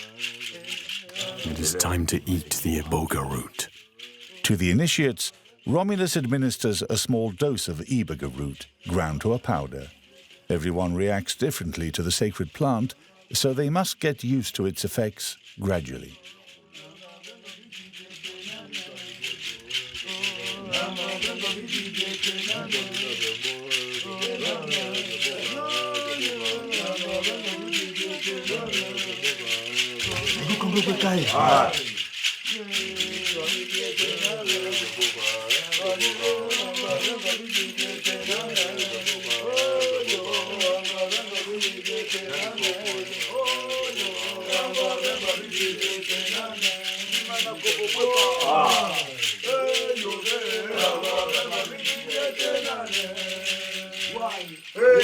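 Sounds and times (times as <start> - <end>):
rattles shaken rhythmically: 0.0 - 55.0
ritual chanting voices: 0.0 - 55.0.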